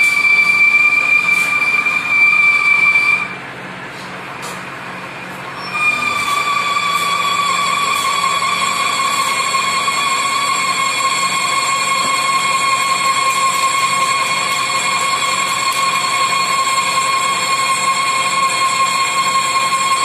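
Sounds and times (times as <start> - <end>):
lathe tool screeching on metal: 0.0 - 3.4, 5.5 - 20.0
lathe machine running: 0.0 - 20.0.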